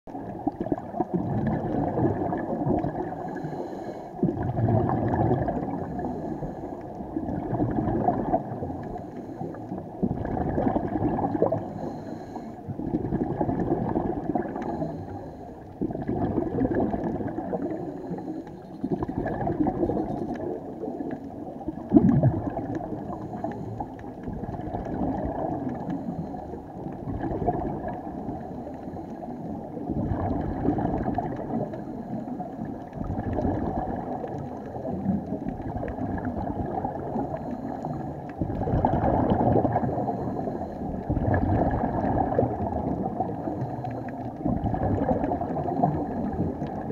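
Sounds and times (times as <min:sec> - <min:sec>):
exhaled bubbles gurgling underwater: 0:00.1 - 0:46.9.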